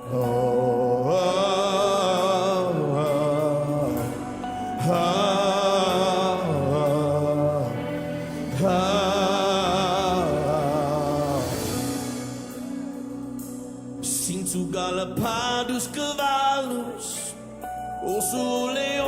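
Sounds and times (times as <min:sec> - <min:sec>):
worship music with vibrato melody: 0:00.0 - 0:19.0.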